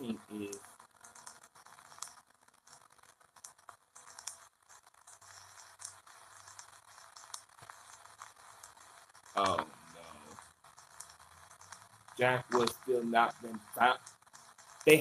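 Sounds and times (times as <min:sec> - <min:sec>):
crackling hiss: 0:00.0 - 0:15.0
small clicks: 0:00.5 - 0:15.0.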